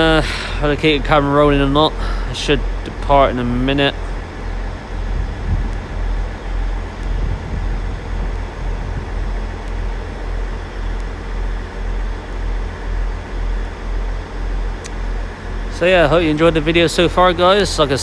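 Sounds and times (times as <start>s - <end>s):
diesel train engine idling: 0.0s - 18.0s.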